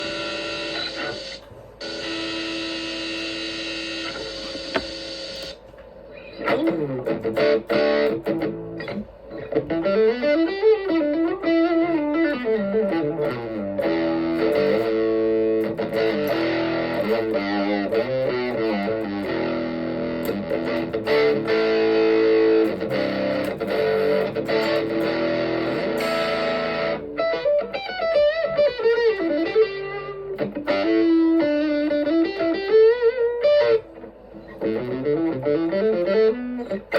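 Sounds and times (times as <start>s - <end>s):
electric guitar with effects: 0.0s - 36.9s.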